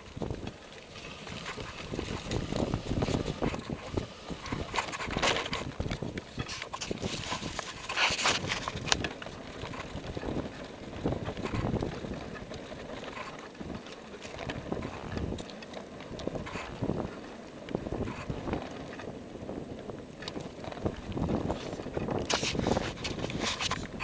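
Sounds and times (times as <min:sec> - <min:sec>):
wind over microphone: 0:00.0 - 0:24.0.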